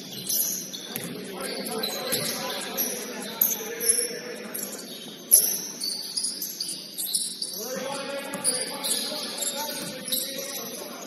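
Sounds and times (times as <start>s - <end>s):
sneakers squeaking on gym floor: 0.0s - 11.0s.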